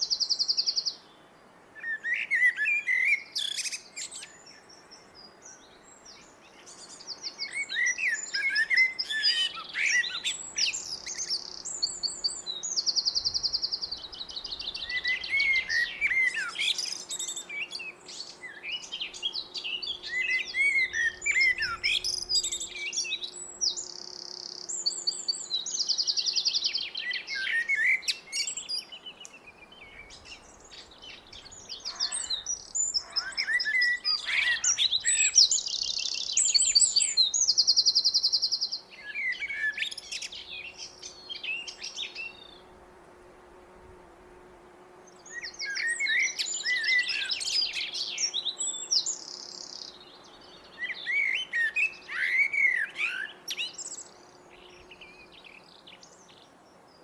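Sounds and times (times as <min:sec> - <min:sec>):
blackbird singing: 0:01.8 - 0:42.6, 0:45.1 - 0:57.0.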